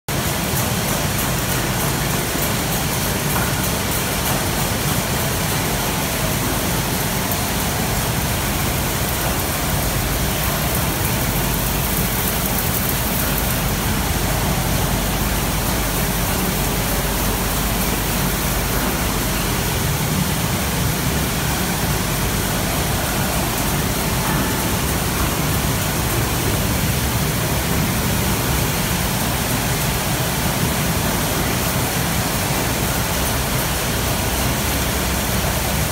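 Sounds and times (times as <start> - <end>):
steady machinery noise: 0.1 - 35.9.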